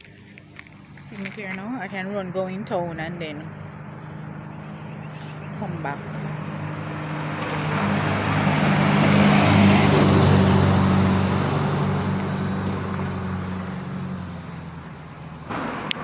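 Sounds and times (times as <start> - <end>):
heavy vehicle passing: 0.0 - 16.0.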